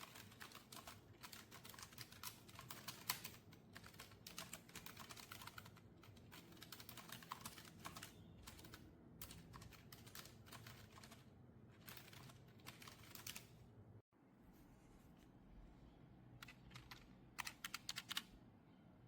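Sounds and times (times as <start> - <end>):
fast keyboard typing: 0.0 - 13.6, 16.4 - 18.3.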